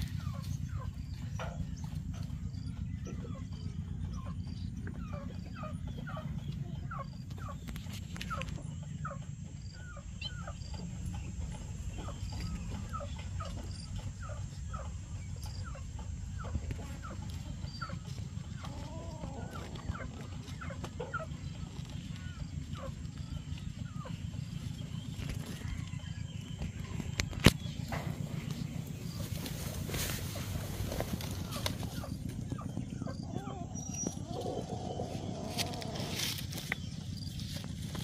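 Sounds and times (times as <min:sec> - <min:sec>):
chickens chirping: 0:00.0 - 0:38.0.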